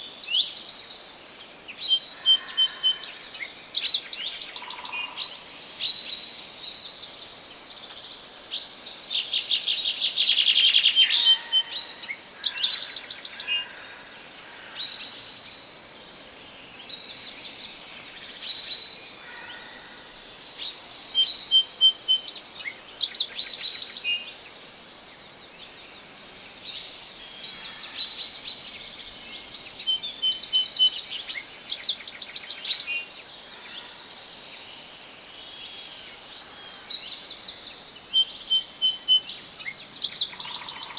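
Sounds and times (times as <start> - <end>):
soft steady hiss: 0.0 - 40.9
songbirds singing: 0.0 - 40.9.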